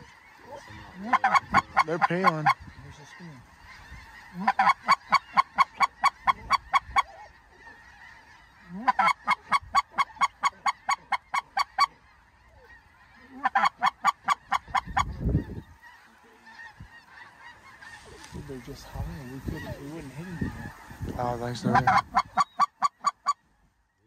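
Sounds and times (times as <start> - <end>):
goose honking: 0.0 - 24.0.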